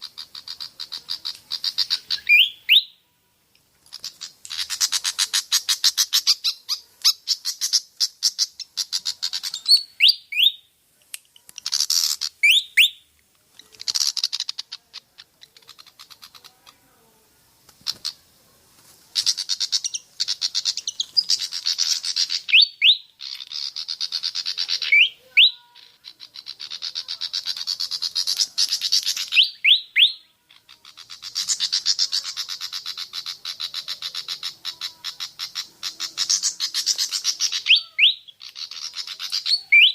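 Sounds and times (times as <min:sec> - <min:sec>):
bird harsh chattering: 0:00.0 - 0:03.0, 0:03.8 - 0:10.7, 0:11.4 - 0:16.8, 0:17.7 - 0:18.3, 0:19.1 - 0:39.9.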